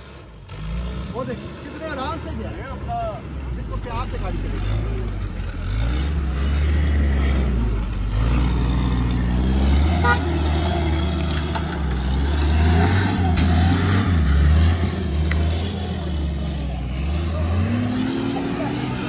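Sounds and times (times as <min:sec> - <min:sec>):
off-road engine under load: 0:00.0 - 0:19.0.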